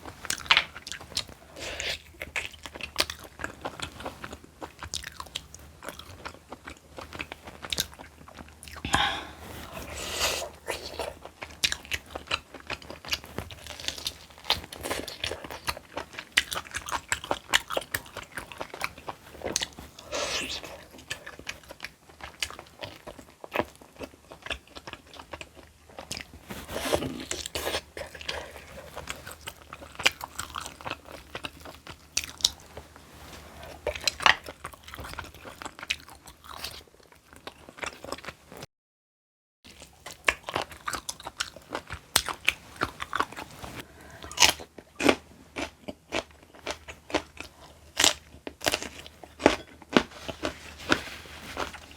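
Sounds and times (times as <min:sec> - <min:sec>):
crunching and chewing vegetables: 0:00.0 - 0:38.7, 0:39.7 - 0:51.9.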